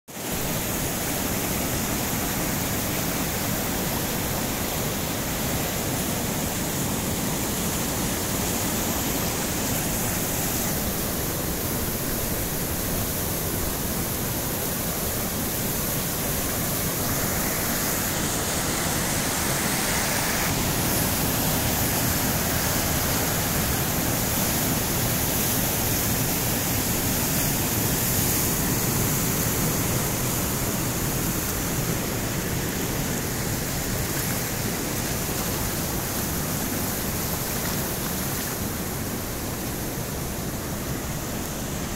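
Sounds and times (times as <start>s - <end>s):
floodwater rushing over ground: 0.1s - 41.9s.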